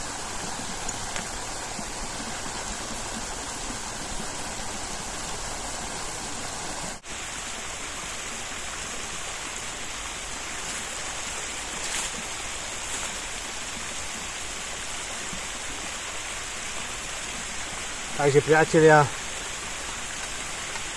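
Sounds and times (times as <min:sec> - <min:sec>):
brook water rushing: 0:00.0 - 0:20.9.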